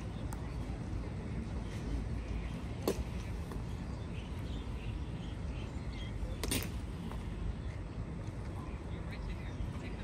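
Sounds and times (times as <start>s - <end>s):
background hubbub: 0.0s - 10.0s.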